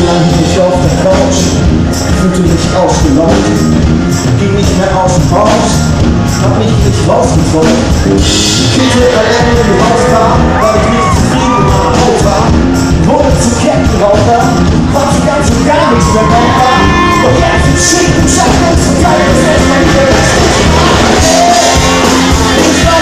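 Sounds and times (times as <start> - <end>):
live band playing: 0.0 - 23.0
man singing into microphone: 0.0 - 23.0.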